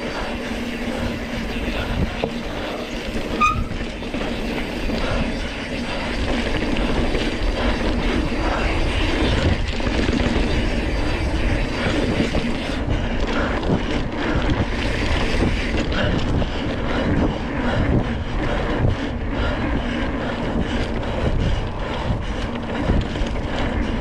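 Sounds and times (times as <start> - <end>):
bike rattling over rough trail: 0.0 - 24.0
wind on microphone: 0.0 - 24.0.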